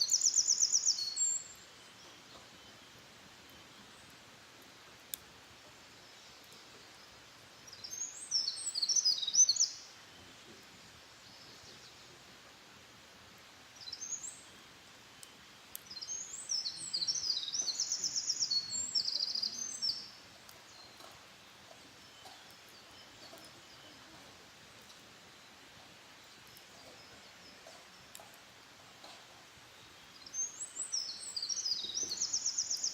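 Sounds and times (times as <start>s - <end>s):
songbird singing: 0.0s - 32.9s.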